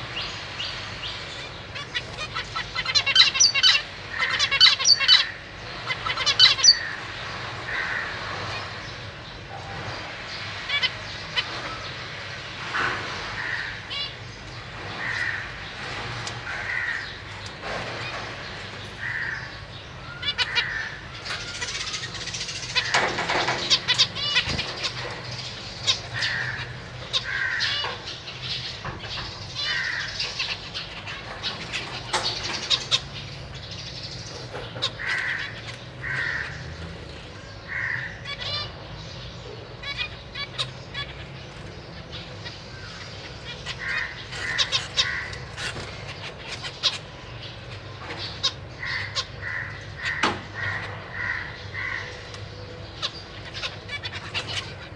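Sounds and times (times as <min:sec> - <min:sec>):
finches calling: 0:00.0 - 0:12.6, 0:13.4 - 0:54.9.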